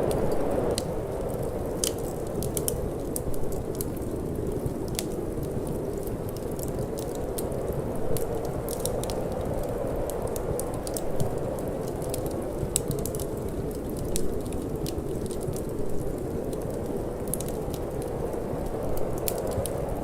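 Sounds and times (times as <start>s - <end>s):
low rush of wind: 0.0s - 20.0s
wood fire crackling: 0.0s - 20.0s.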